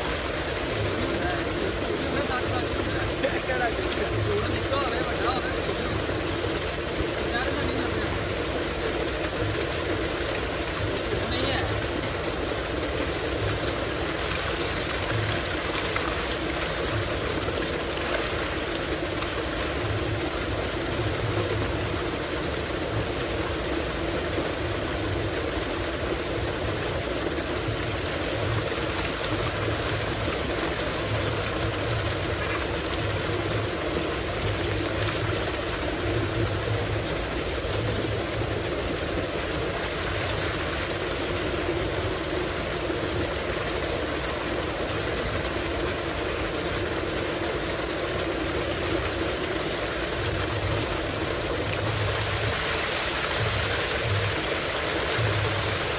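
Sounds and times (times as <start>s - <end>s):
water gushing into a tank: 0.0s - 55.9s.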